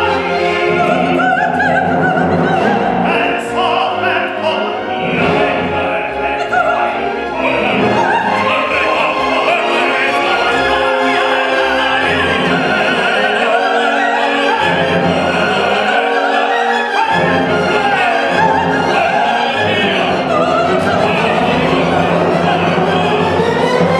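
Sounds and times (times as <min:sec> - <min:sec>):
opera singers singing: 0:00.0 - 0:23.9
orchestra playing: 0:00.0 - 0:23.9.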